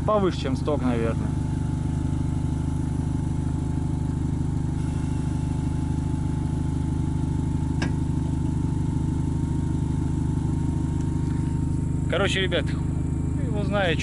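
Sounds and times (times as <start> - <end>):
car engine idling: 0.0 - 14.0
thin steady whine: 0.5 - 14.0.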